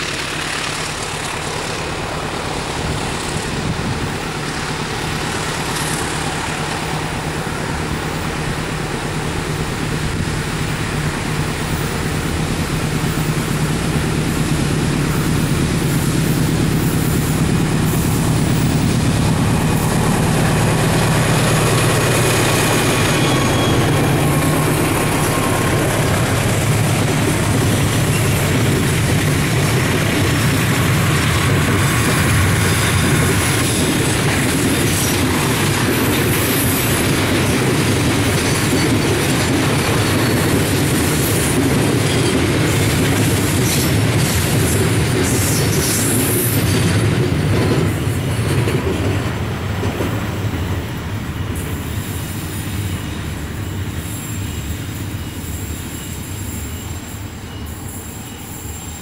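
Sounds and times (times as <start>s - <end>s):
wheels clacking over rail joints: 0.0s - 51.0s
freight train rolling past: 0.0s - 59.0s.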